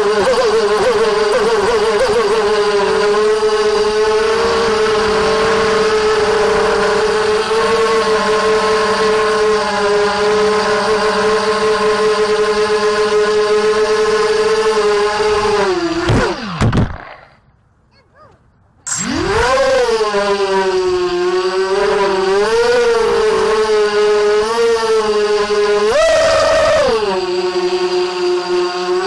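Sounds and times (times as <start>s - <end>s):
quadcopter motors whining: 0.0s - 17.4s, 18.8s - 29.0s.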